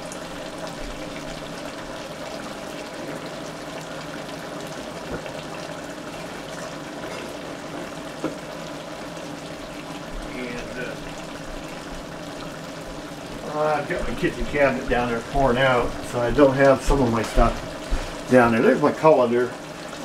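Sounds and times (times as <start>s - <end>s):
food bubbling and sizzling: 0.0s - 20.0s.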